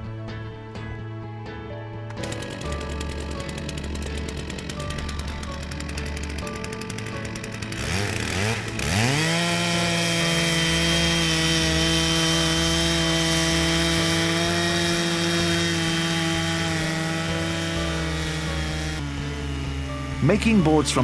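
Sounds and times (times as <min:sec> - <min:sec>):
chainsaw cutting a log: 0:02.1 - 0:21.0.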